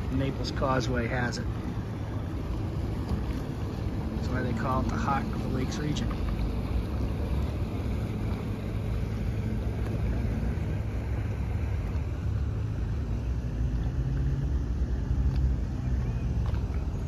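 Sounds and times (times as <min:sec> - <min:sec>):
faint engine drone: 0:00.0 - 0:17.0
passing traffic engine rumble: 0:00.0 - 0:17.0.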